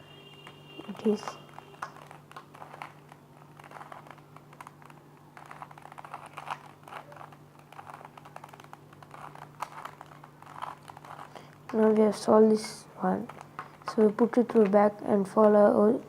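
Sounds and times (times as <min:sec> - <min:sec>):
puzzle cube clicking: 0:00.8 - 0:14.8.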